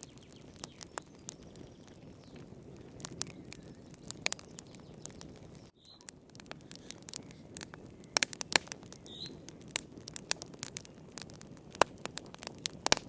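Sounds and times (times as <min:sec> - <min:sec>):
low hiss of burning: 0:00.0 - 0:13.0
wood fire crackling and popping: 0:00.0 - 0:13.0.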